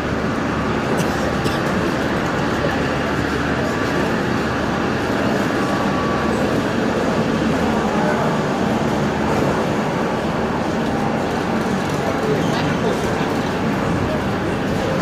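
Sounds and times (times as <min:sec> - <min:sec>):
diesel train engine rumbling: 0:00.0 - 0:15.0.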